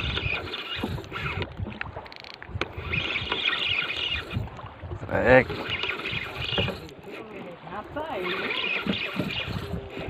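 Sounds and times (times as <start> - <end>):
fast reel clicks: 0.0 - 10.0
fishing reel cranking: 0.0 - 10.0
water slapping boat hull: 0.0 - 10.0
wind on microphone: 0.0 - 10.0.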